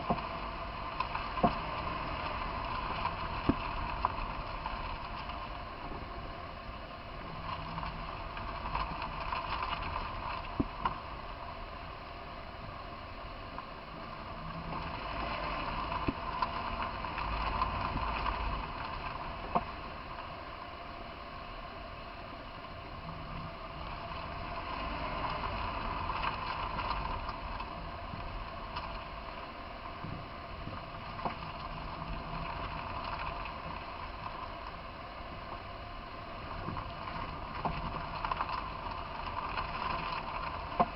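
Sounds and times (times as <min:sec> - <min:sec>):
steady running noise: 0:00.0 - 0:40.9.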